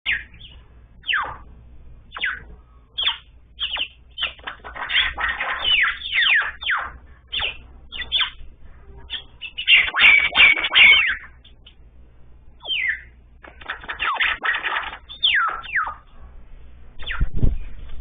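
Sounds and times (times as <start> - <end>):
songbird chirps: 0.1 - 1.5, 2.1 - 11.8, 12.6 - 16.1.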